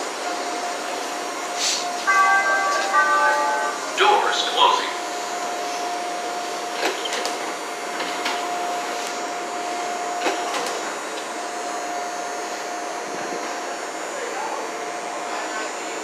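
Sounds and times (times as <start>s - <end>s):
train equipment humming and whining: 0.0s - 16.0s.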